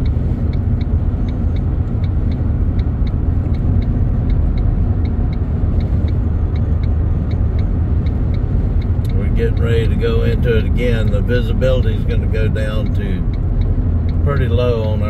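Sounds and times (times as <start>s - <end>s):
car road and wind rumble: 0.0s - 15.0s
faint regular ticking: 0.0s - 15.0s.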